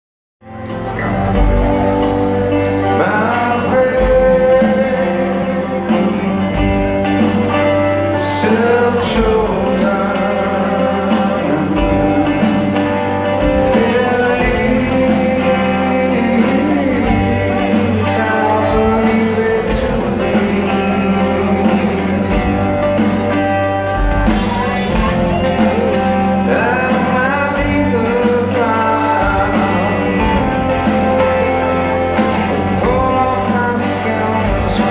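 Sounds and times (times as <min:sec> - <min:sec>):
live rock band playing: 0:00.4 - 0:34.9
person singing: 0:00.5 - 0:34.9.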